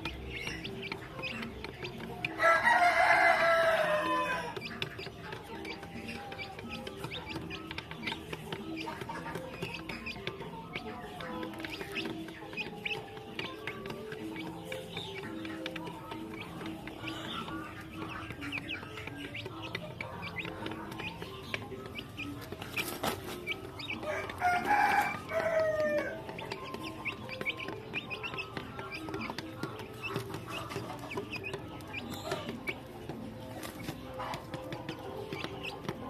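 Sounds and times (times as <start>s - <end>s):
beaks tapping on wooden boards: 0.0s - 36.0s
chickens clucking softly: 0.0s - 36.0s.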